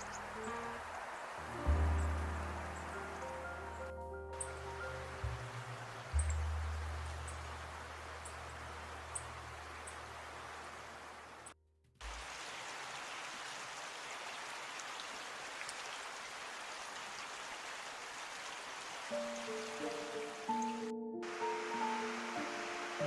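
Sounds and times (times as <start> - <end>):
water hissing: 0.0 - 23.0.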